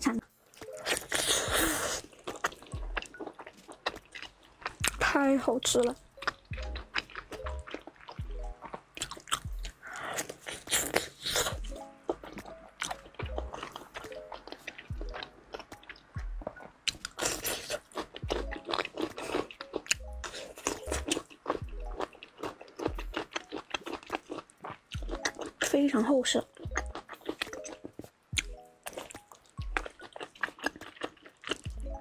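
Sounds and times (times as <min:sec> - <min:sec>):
background music with light beat: 0:00.0 - 0:32.0
biting and chewing: 0:00.4 - 0:32.0.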